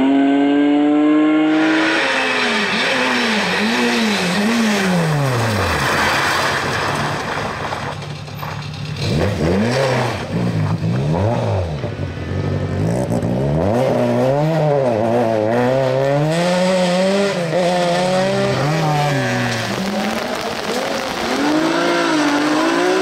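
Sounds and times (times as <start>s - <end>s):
rally car engine revving: 0.0s - 8.0s, 8.7s - 23.0s.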